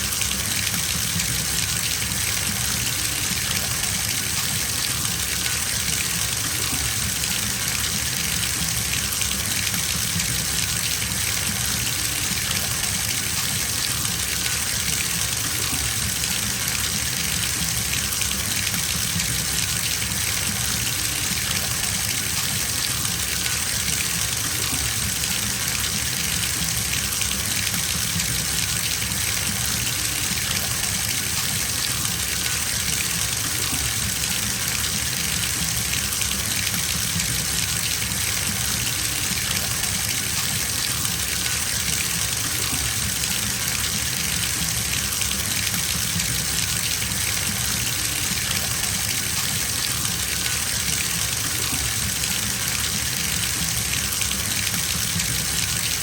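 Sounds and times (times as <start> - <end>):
water running from bathtub tap: 0.0 - 56.0.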